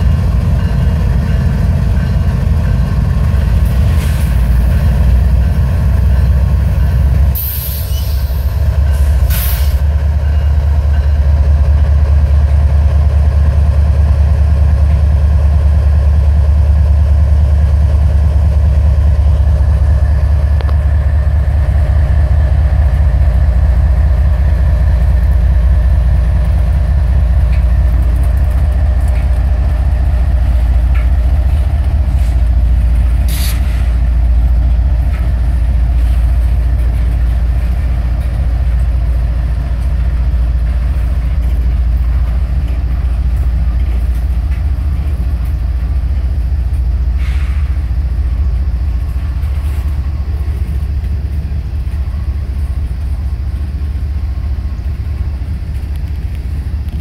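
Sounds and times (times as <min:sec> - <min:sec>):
diesel locomotive drone: 0:00.0 - 0:57.0
freight cars rumbling on rails: 0:00.0 - 0:57.0.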